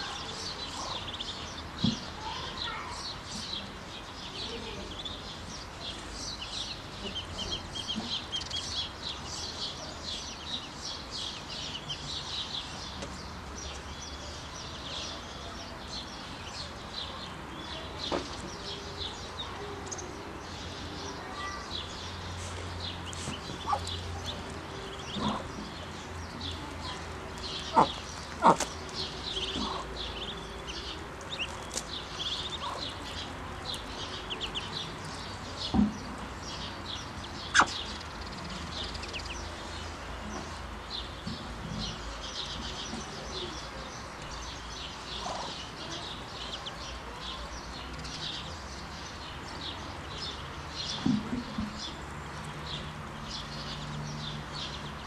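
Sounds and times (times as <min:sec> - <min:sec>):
ducklings peeping: 0:00.0 - 0:02.6, 0:04.4 - 0:15.2, 0:21.8 - 0:54.8.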